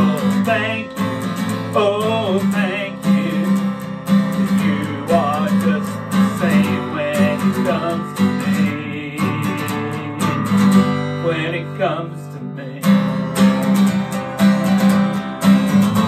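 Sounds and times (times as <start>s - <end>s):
man singing: 0.0s - 13.2s
acoustic guitar strumming: 0.0s - 16.0s.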